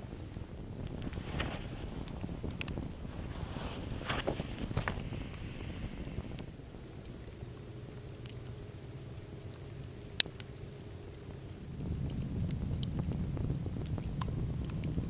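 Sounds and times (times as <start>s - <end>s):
campfire crackling and popping: 0.0s - 15.0s
low rush of fire: 0.0s - 15.0s.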